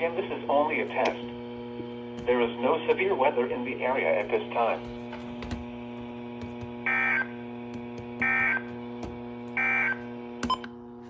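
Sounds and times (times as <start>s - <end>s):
steady radio hum: 0.0s - 9.0s.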